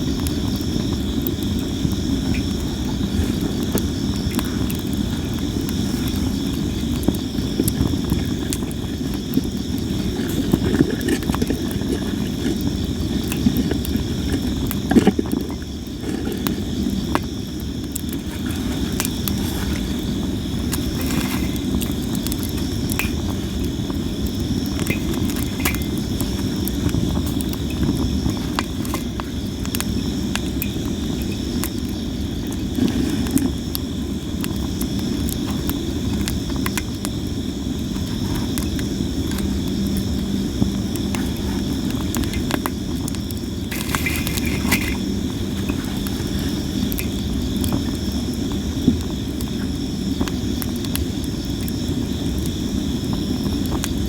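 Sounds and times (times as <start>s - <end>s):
campfire crackling and popping: 0.0s - 54.0s
insects chirping: 0.0s - 54.0s.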